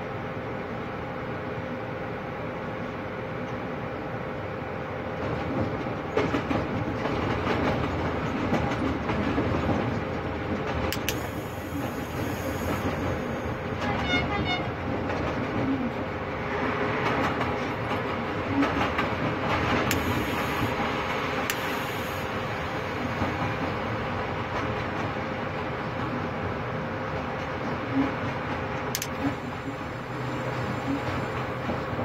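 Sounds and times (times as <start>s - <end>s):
train running rumble: 0.0s - 32.0s.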